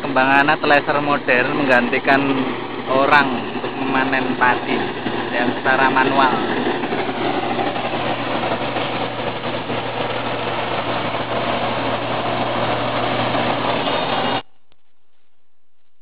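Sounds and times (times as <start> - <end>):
harvester engine running: 0.0 - 16.0.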